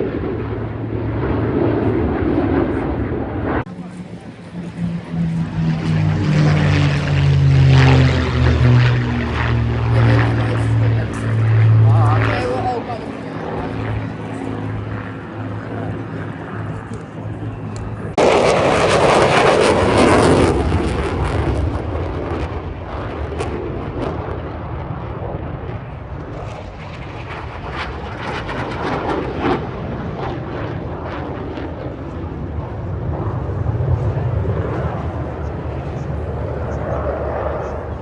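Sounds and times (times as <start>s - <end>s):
aircraft rushing roar: 0.0s - 38.0s
low aircraft engine hum: 0.0s - 38.0s.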